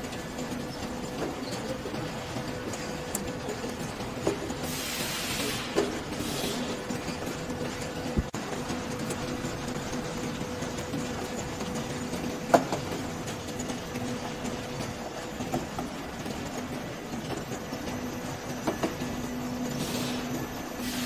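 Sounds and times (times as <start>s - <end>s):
frying machine hum and rattle: 0.0s - 21.0s.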